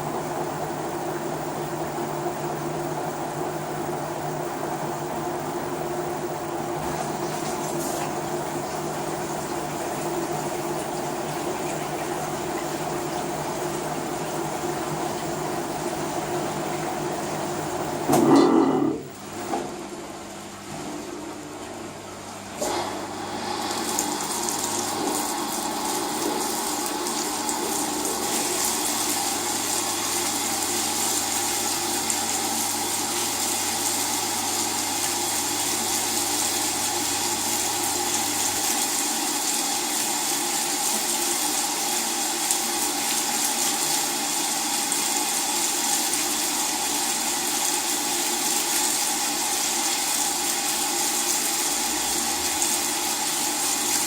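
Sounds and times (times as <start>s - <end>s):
water rushing in washing machine: 0.0s - 54.0s.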